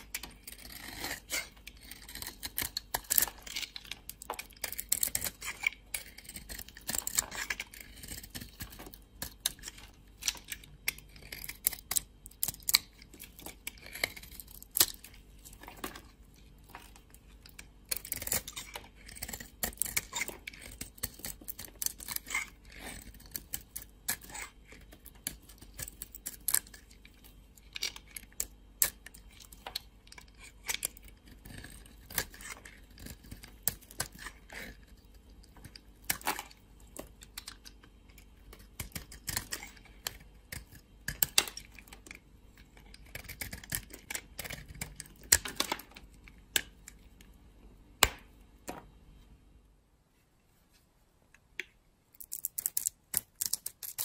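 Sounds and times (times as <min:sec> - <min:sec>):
soap cracking and crunching: 0:00.0 - 0:47.3, 0:52.2 - 0:54.0.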